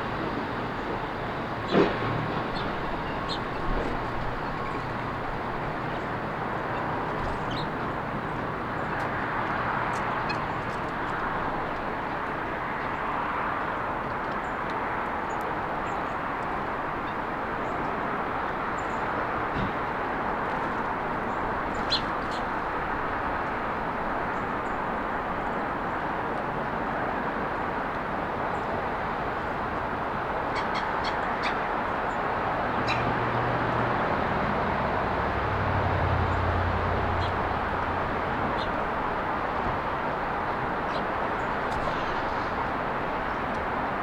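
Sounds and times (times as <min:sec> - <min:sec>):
road traffic noise: 0:00.0 - 0:44.0.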